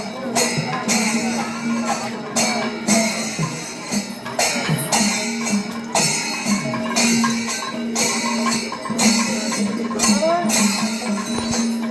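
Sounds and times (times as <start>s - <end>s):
chenda drums fast rhythm: 0.0s - 11.9s
clashing cymbals: 0.0s - 11.9s.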